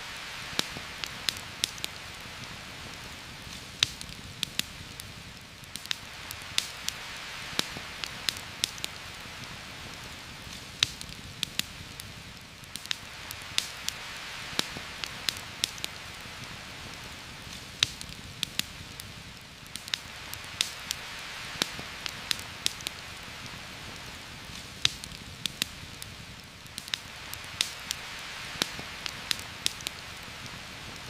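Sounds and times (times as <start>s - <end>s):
heavy rain in a forest: 0.0s - 31.0s
sharp crackles and pops: 0.0s - 31.0s.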